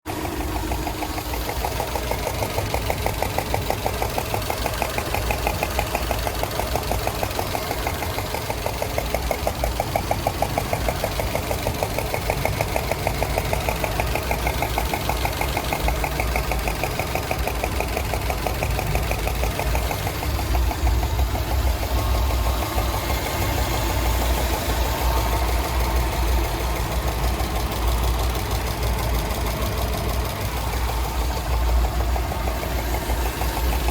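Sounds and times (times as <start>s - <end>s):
car engine idling: 0.0s - 33.9s
fast even engine tapping: 0.0s - 33.9s.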